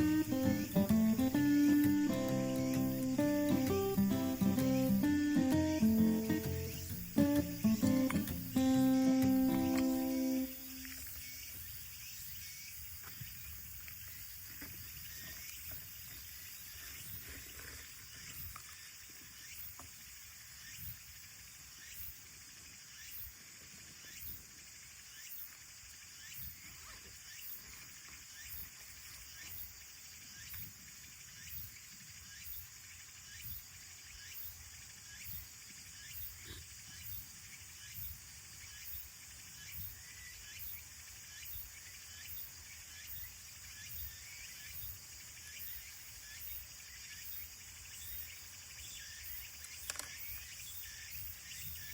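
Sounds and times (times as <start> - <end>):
insect chirping: 0.0 - 51.9.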